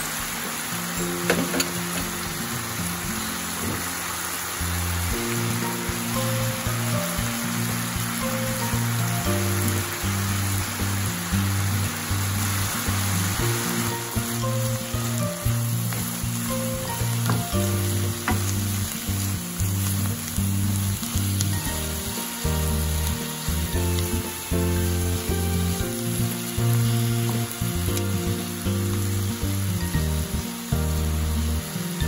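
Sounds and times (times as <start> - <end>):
vegetables sizzling in a pan: 0.0 - 32.0
background music: 0.6 - 32.0.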